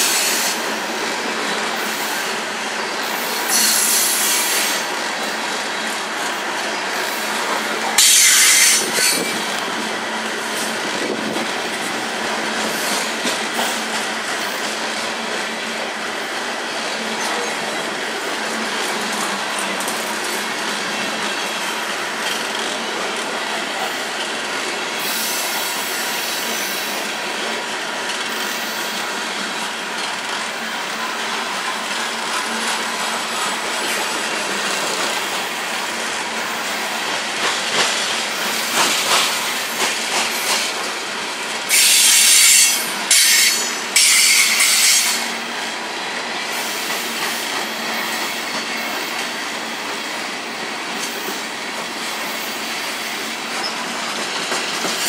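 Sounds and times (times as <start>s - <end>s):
train wheels clacking on rails: 0.0s - 55.0s.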